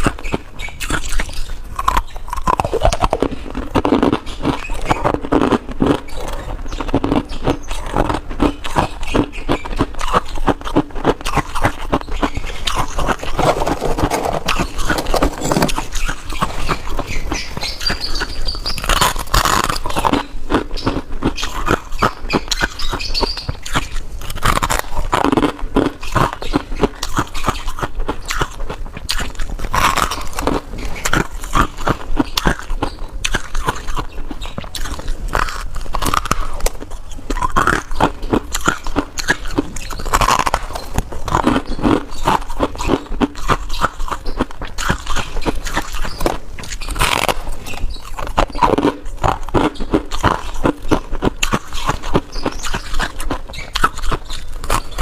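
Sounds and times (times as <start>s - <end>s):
person chewing ice: 0.0s - 55.0s.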